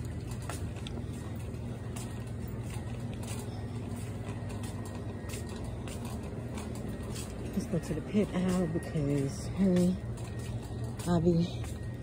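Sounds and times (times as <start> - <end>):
shopping cart rolling: 0.0 - 12.0.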